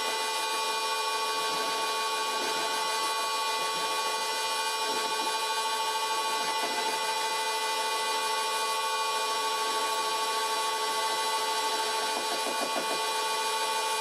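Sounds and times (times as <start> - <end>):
metal lathe whining: 0.0 - 14.0.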